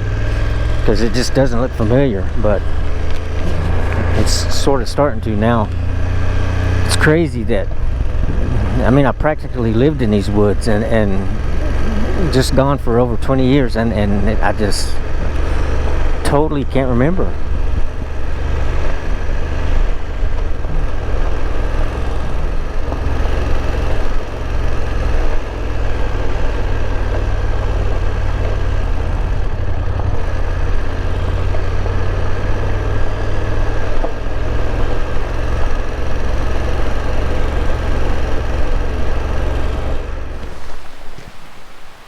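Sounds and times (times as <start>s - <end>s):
motorcycle engine running: 0.0s - 41.3s
wind and road noise: 0.0s - 42.0s.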